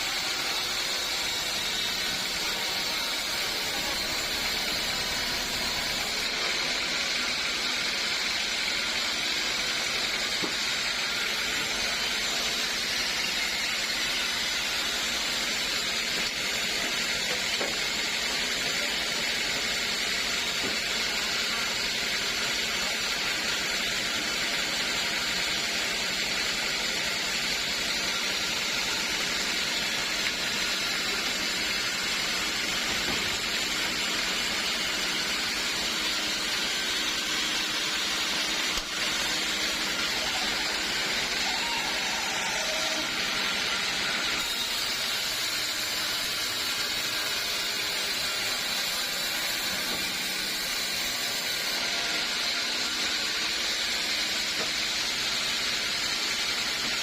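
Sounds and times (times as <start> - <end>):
sawmill saw running: 0.0 - 57.0.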